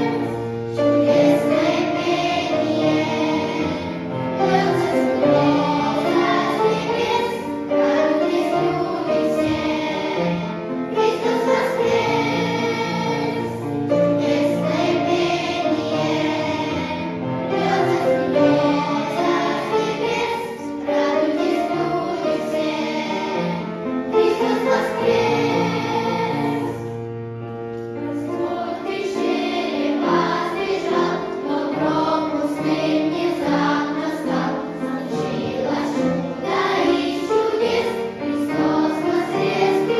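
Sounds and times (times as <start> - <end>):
choir singing: 0.0 - 27.0, 28.0 - 39.9
musical accompaniment: 0.0 - 39.9.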